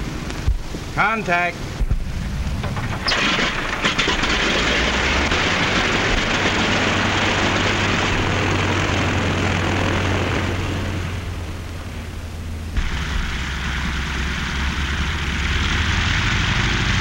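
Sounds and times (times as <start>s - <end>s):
radial aircraft engine running: 0.0s - 17.0s.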